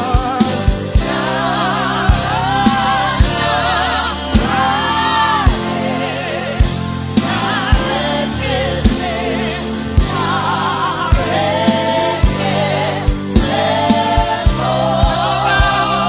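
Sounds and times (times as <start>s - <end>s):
gospel worship music: 0.0s - 16.0s
voices singing with vibrato: 0.0s - 16.0s.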